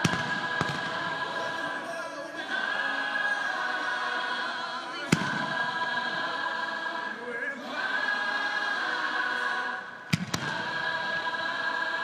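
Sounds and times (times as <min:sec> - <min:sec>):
choral music: 0:00.0 - 0:12.0.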